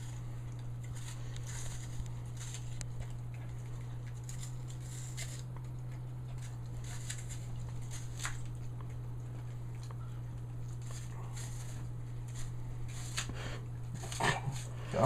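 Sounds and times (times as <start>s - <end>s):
puppy crunching an apple: 0.0s - 15.0s
steady low hum: 0.0s - 15.0s.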